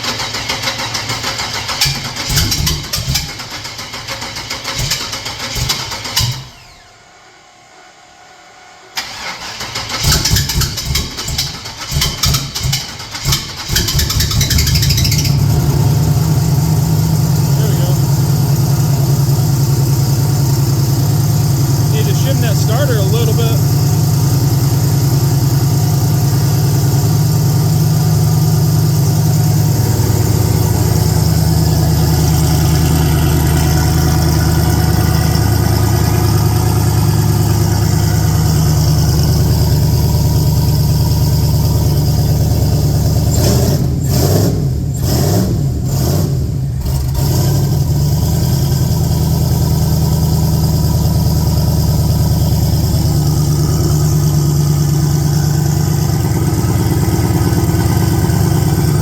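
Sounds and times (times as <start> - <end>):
car engine idling: 9.0 - 59.0.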